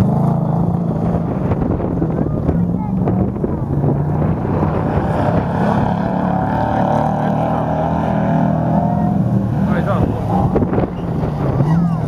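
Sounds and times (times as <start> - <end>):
race car engine running hard: 0.0 - 12.0.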